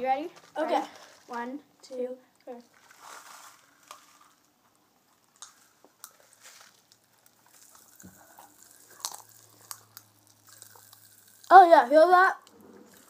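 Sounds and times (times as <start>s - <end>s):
popping candy crackling: 0.2s - 13.0s.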